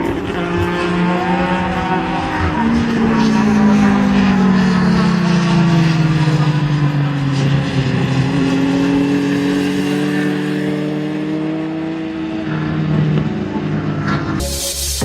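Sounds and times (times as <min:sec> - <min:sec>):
motorcycle engine at high revs: 0:00.0 - 0:14.4.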